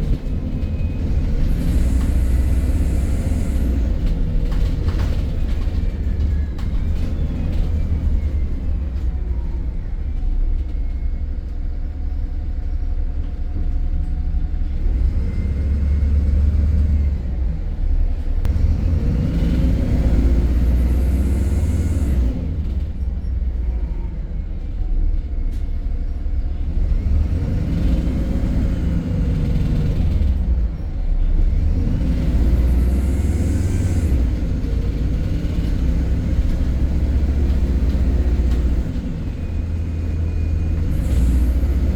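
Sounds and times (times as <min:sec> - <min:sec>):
bus engine rumble: 0:00.0 - 0:41.9.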